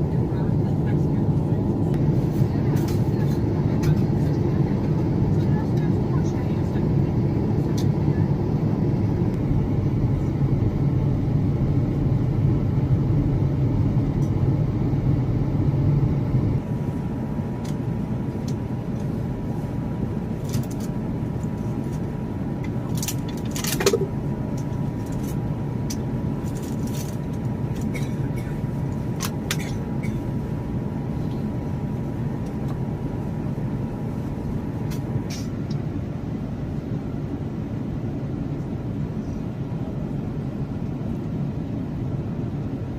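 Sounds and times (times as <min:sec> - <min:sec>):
airplane cabin engine rumble: 0:00.0 - 0:42.9.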